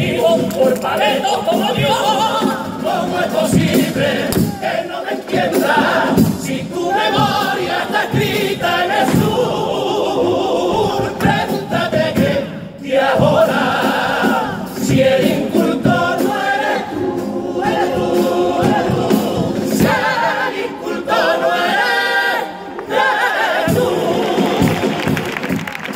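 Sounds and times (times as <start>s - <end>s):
male chorus singing in harmony: 0.0s - 25.5s.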